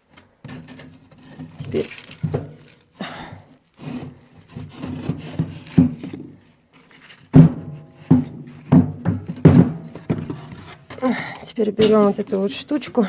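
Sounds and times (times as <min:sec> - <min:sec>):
panels scraping and knocking: 0:00.0 - 0:13.0.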